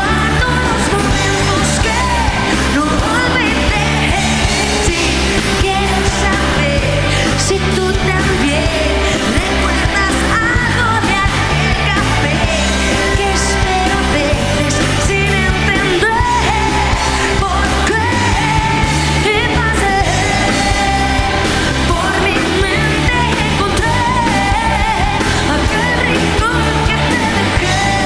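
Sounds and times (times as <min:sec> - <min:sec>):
pop-rock band playing: 0:00.0 - 0:28.0
woman singing: 0:00.0 - 0:28.0.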